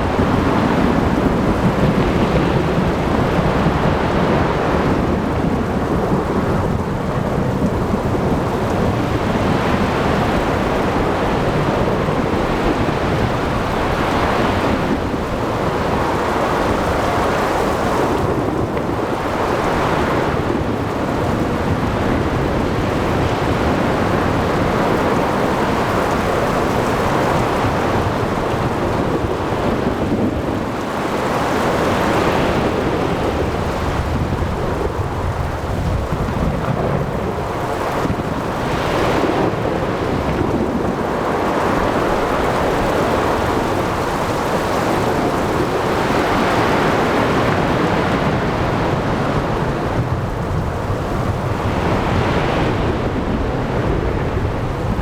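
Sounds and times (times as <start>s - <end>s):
wind: 0.0s - 55.0s
waves surging: 7.8s - 55.0s.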